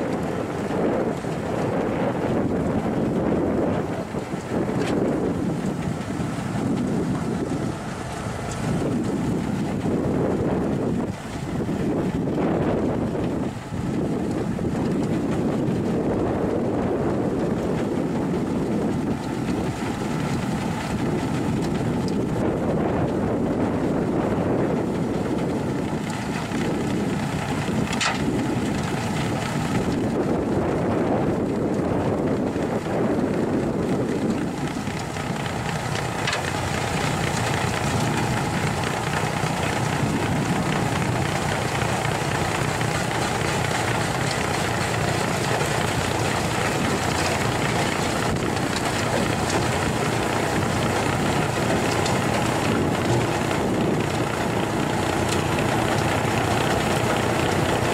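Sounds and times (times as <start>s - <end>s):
snow blower churning through snow: 0.0s - 57.9s.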